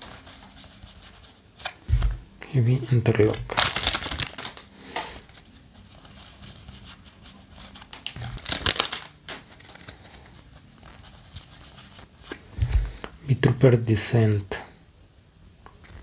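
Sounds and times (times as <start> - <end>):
trading cards rustling: 0.0 - 13.2.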